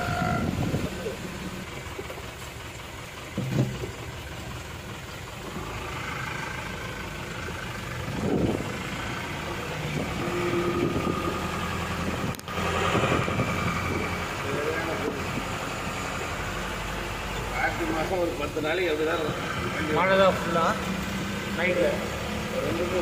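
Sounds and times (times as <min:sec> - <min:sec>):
road noise: 0:00.0 - 0:23.0
vehicle engine running: 0:00.0 - 0:23.0.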